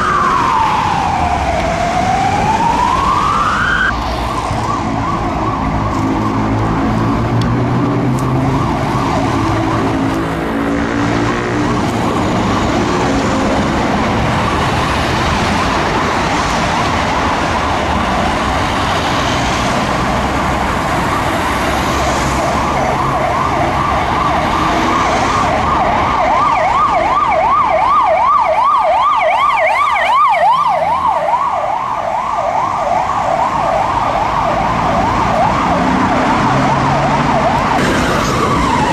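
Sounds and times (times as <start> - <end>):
emergency sirens wailing: 0.0 - 38.9
higher siren: 0.0 - 38.9
traffic hum: 0.0 - 38.9.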